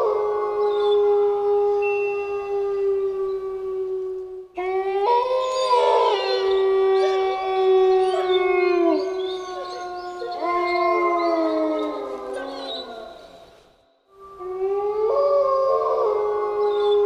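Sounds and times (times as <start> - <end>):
wolves howling in chorus: 0.0 - 13.6, 14.2 - 17.0.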